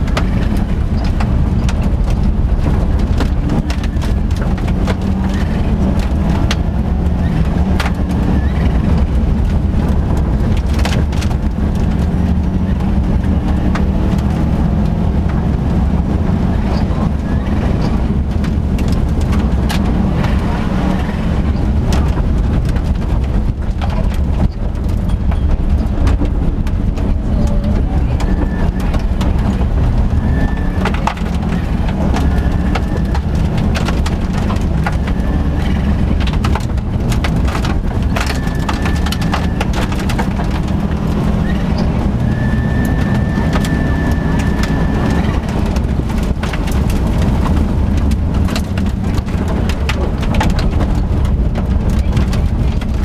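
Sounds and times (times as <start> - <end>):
car engine running hard: 0.0 - 53.0
gravel clattering on car underside: 0.0 - 53.0.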